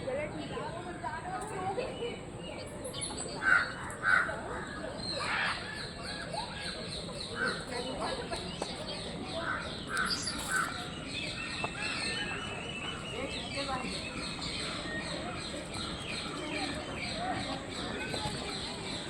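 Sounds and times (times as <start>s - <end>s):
small birds chirping rapidly: 2.4s - 19.0s.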